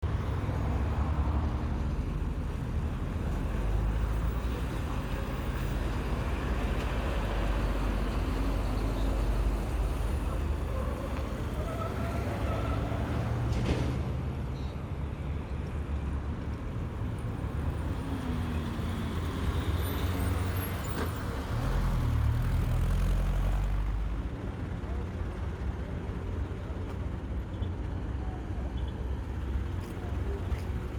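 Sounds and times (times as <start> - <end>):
road traffic noise: 0.0 - 30.9
truck diesel engines running: 0.0 - 30.9.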